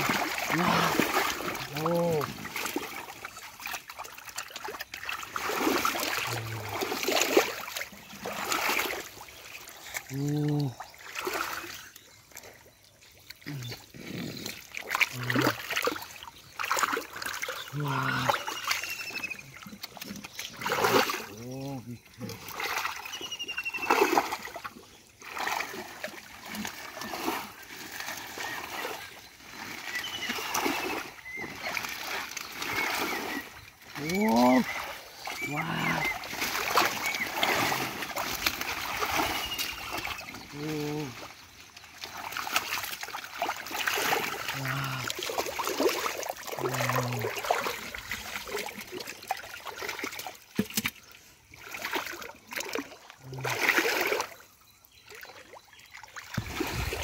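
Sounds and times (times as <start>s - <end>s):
muddy water splashing: 0.0s - 57.0s.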